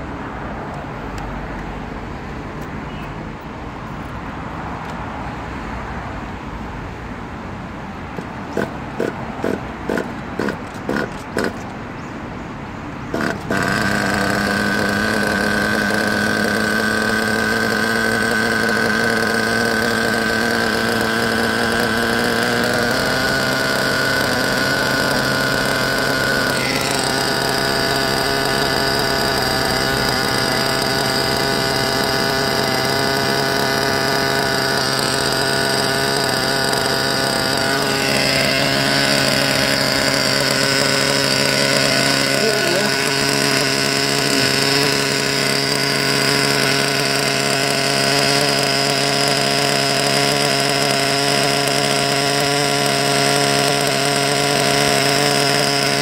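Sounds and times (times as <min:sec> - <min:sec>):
small model engine idling: 0:00.0 - 0:01.2, 0:08.1 - 0:12.0, 0:12.9 - 0:56.0.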